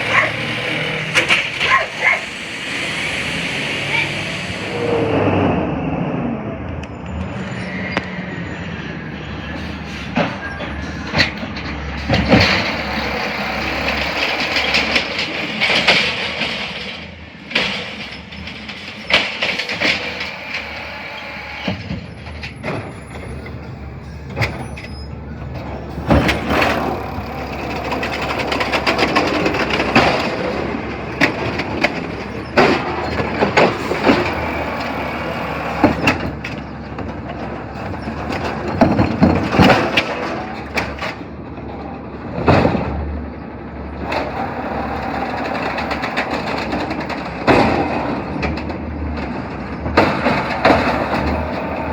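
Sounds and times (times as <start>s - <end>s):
garbage truck engine running: 0.0s - 51.9s.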